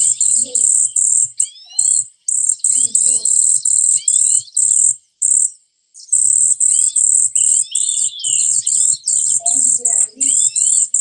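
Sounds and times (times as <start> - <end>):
recorded bird calls over speaker: 0.0 - 11.0.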